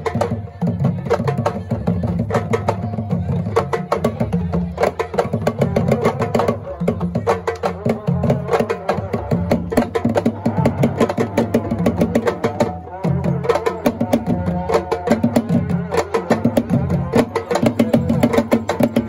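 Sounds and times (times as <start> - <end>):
drums playing fast rhythms: 0.0 - 19.0.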